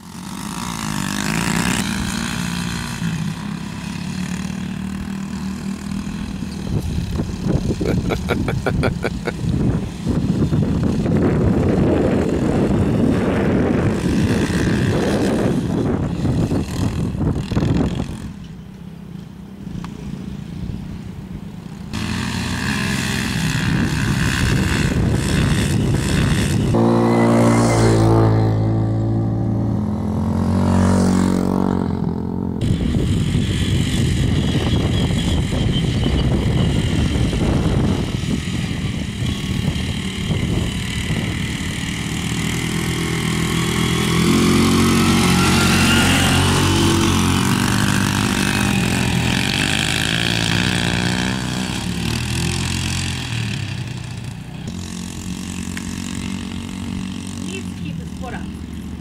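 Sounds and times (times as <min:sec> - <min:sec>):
dirt bike revving close by: 0:00.0 - 0:18.6, 0:21.6 - 0:59.0
dirt bike engines: 0:00.0 - 0:59.0.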